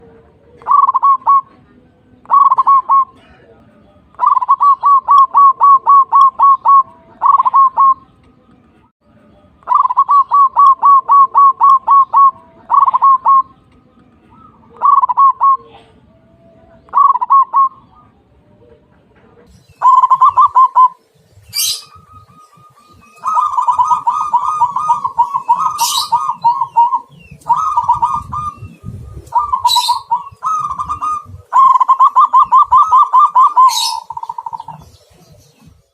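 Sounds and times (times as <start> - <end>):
lovebird stuttering cooing song: 0.0 - 1.6, 2.2 - 3.2, 4.2 - 8.1, 9.6 - 13.6, 14.3 - 16.0, 16.9 - 18.2, 19.5 - 35.9.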